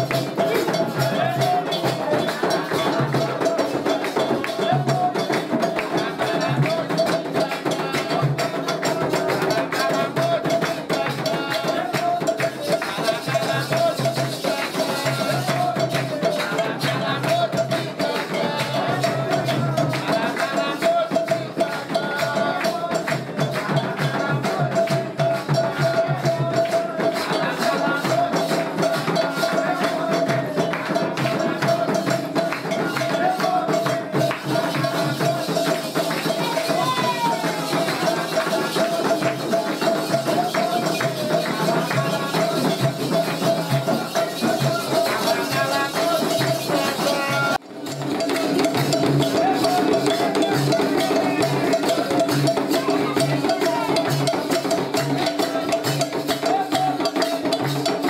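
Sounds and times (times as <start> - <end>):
rattles and hand percussion: 0.0 - 58.0.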